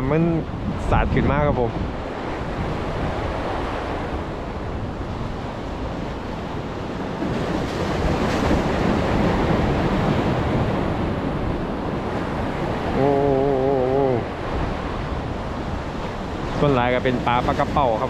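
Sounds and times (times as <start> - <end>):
surf washing against breakwater: 0.0 - 18.0
wind buffeting microphone: 0.0 - 18.0.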